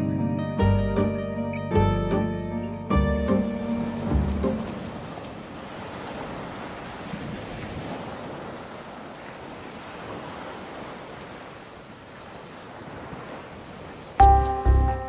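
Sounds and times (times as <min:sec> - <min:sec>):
sea waves and surf: 0:00.0 - 0:15.0
wind: 0:00.0 - 0:15.0.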